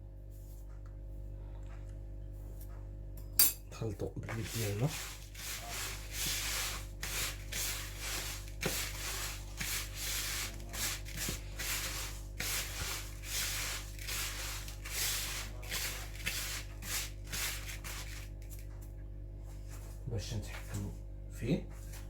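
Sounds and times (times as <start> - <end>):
hand mixing biscuit crumbs: 3.8 - 22.0.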